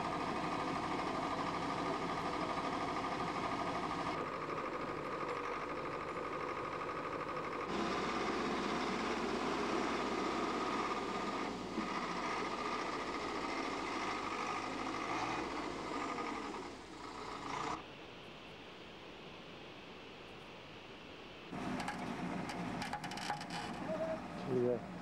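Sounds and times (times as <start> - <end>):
diesel engine of backhoe running: 0.0 - 17.8, 21.5 - 25.0.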